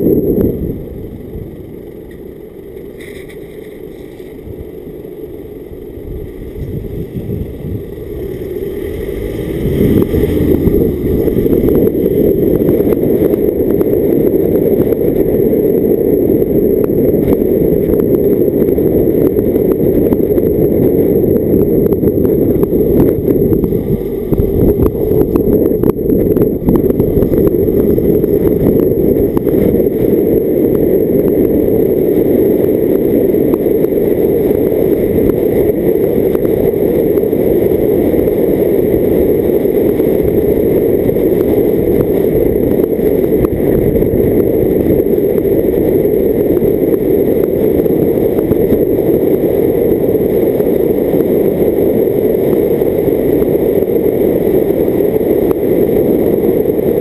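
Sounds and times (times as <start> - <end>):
road noise: 0.0 - 57.0
wind buffeting: 0.0 - 57.0.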